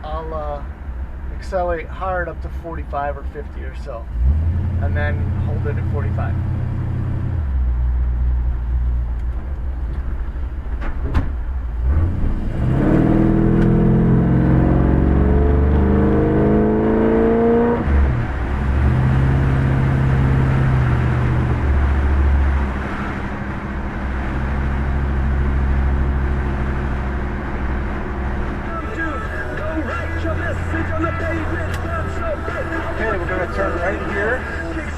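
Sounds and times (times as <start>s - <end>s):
car engine accelerating hard: 1.3s - 10.7s, 11.7s - 34.9s.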